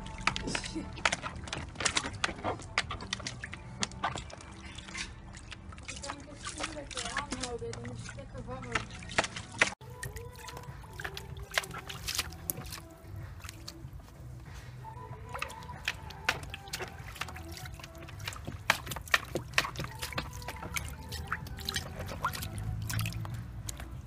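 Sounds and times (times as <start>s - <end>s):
dog splashing in water: 0.0s - 24.0s.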